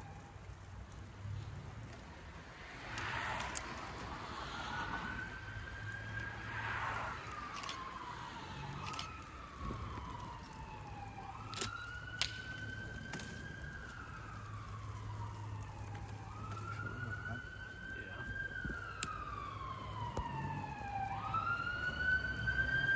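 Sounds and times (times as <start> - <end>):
burning car popping and crackling: 0.0 - 22.9
emergency siren wailing: 0.0 - 22.9.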